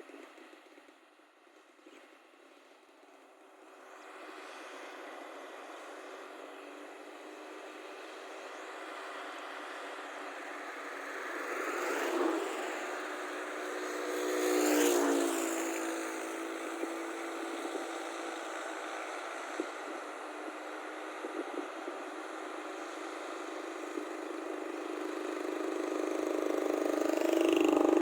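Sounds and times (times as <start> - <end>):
motor vehicles driving past: 3.9 - 28.0.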